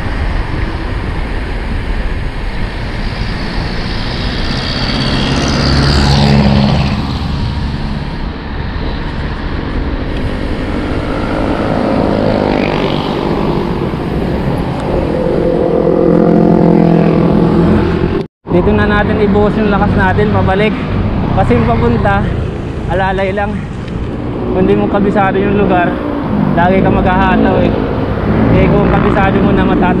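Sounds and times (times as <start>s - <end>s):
vehicle engines passing: 0.0s - 30.0s
wind rushing over microphone: 0.0s - 30.0s.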